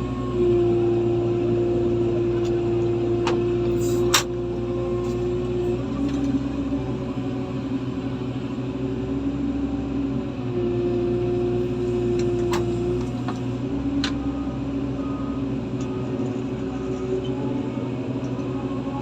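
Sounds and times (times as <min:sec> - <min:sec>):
heavy diesel engines running: 0:00.0 - 0:19.0.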